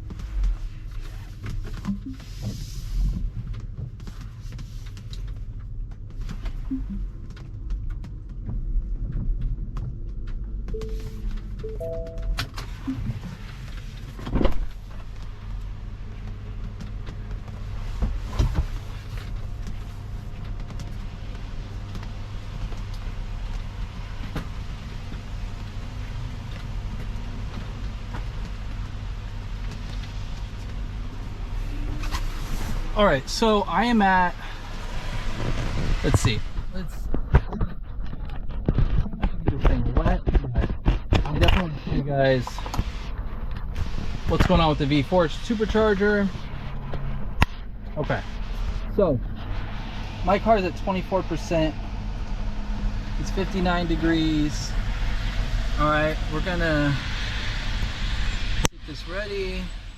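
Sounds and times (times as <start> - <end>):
low rumble inside car cabin: 0.0 - 57.2.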